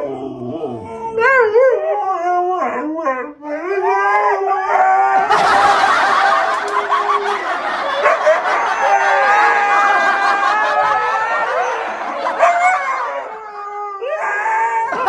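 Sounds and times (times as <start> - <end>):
dog howling: 0.0 - 5.6, 8.0 - 15.0.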